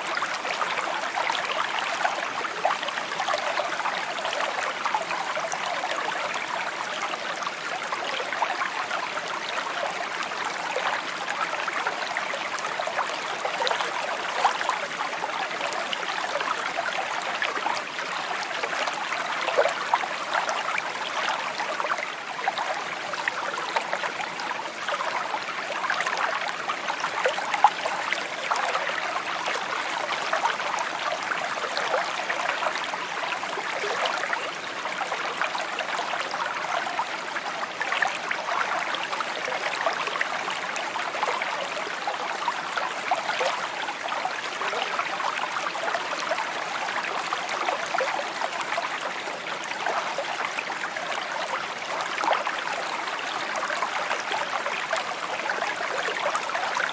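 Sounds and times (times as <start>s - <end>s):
brook babbling over stones: 0.0s - 56.9s.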